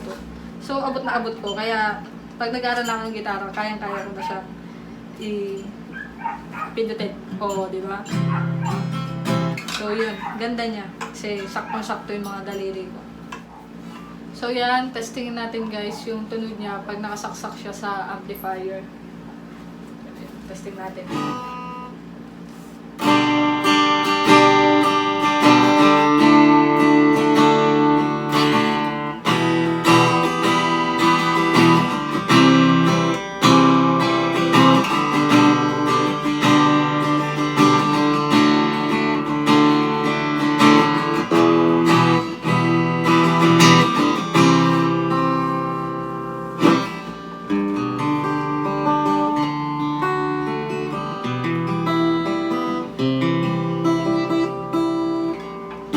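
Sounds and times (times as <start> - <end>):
acoustic guitar strumming chords: 0.0 - 14.4, 21.0 - 55.9.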